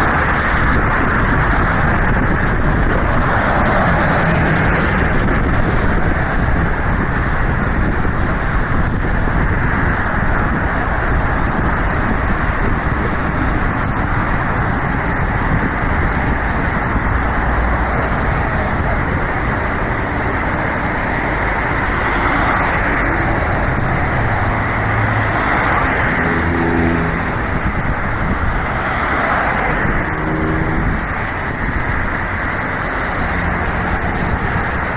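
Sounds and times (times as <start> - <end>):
road and tyre noise: 0.0 - 34.9.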